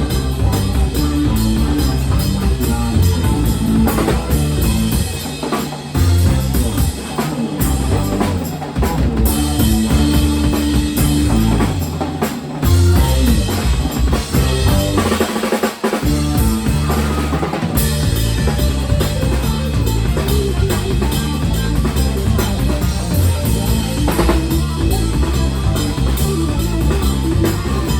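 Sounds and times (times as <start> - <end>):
drum kit: 0.0 - 27.9
rock band playing: 0.0 - 27.9.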